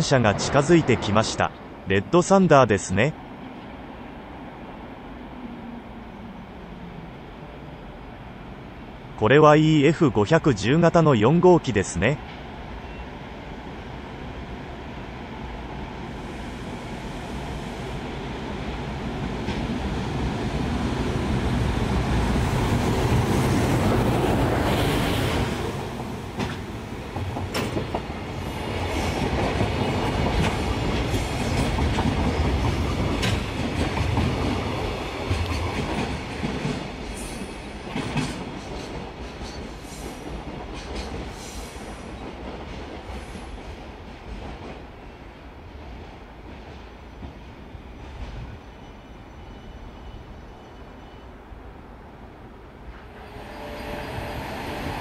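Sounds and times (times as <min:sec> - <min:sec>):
train rumbling: 0:00.0 - 0:09.2, 0:09.8 - 0:55.0.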